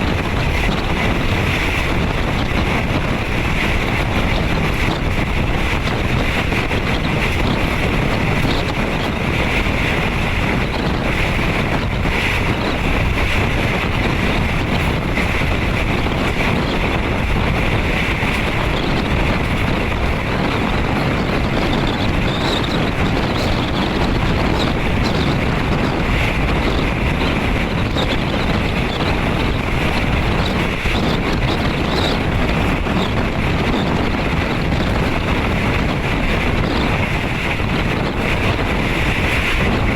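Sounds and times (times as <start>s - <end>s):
train interior rolling noise: 0.0s - 39.9s.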